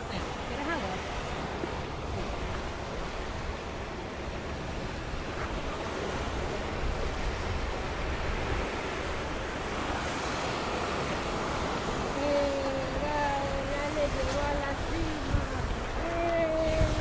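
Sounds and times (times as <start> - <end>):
sea surf washing ashore: 0.0 - 17.0
wind rumbling on microphone: 0.0 - 17.0.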